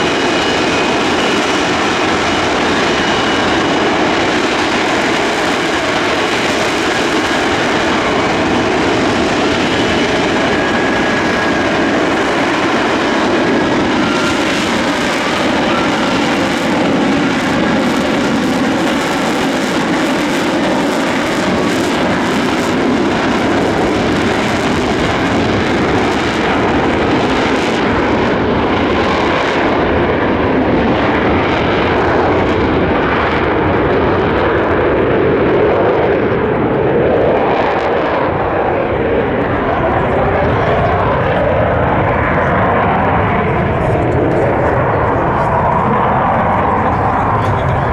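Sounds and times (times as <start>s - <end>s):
jet engine roar: 0.0s - 47.9s.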